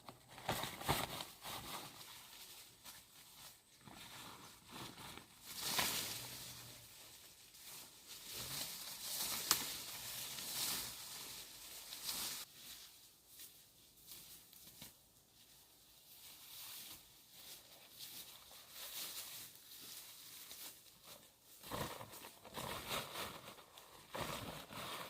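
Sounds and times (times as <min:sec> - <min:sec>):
rustling and crinkling: 0:00.0 - 0:25.0.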